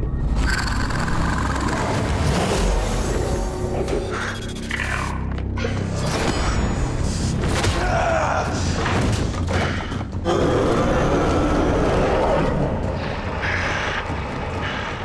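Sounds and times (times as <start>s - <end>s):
soundtrack music: 0.0s - 15.0s.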